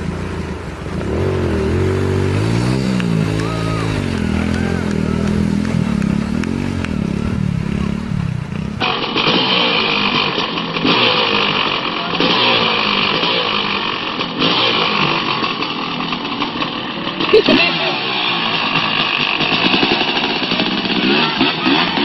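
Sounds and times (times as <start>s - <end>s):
dirt bike engine revving: 0.0s - 22.0s
small motorcycle revving through water: 0.0s - 22.0s.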